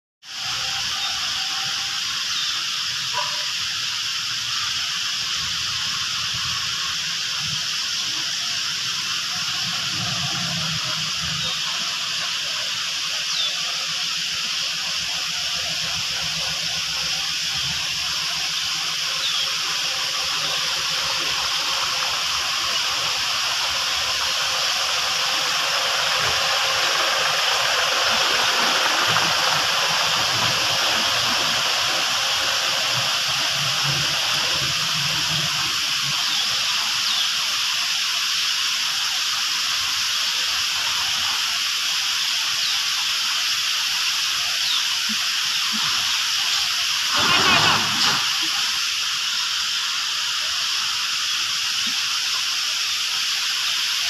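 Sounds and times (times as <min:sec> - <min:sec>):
steady hiss: 0:00.2 - 0:54.0.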